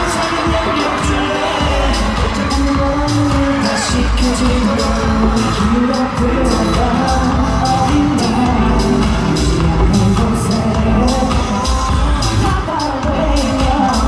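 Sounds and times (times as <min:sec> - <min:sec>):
pop song through concert speakers: 0:00.0 - 0:14.0.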